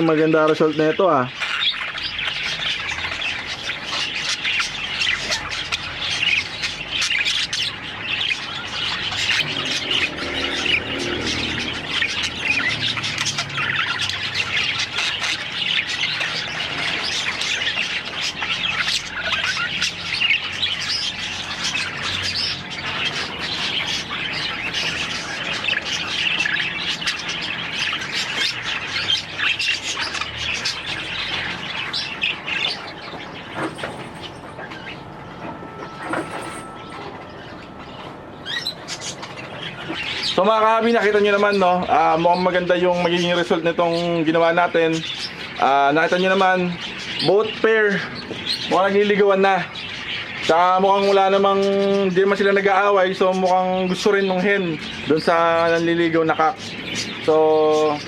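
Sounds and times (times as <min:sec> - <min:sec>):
budgerigars chattering and squawking: 0:00.0 - 0:58.0.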